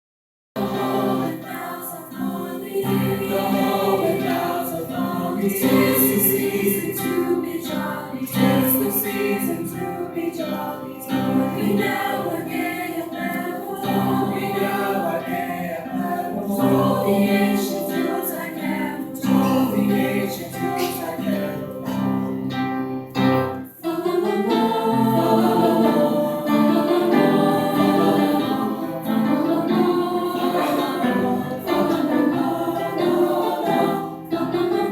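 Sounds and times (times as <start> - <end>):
children's choir singing: 0.6 - 34.9.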